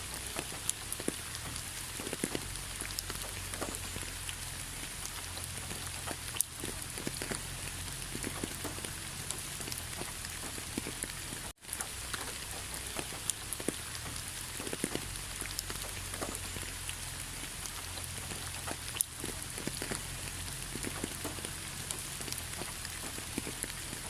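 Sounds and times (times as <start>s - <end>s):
raindrops ticking on surfaces: 0.0s - 24.0s
steady rain hiss: 0.0s - 24.0s.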